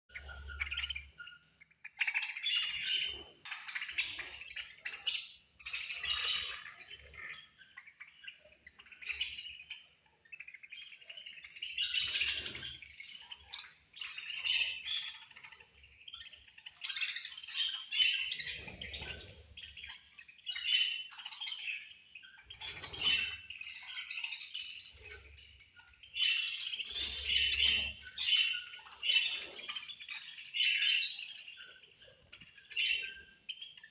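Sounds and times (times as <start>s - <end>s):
budgerigars chirping and chattering: 0.1s - 33.9s.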